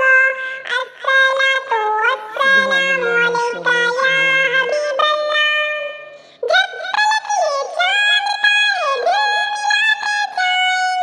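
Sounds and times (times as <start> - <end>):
high synthetic voice singing: 0.0 - 11.0.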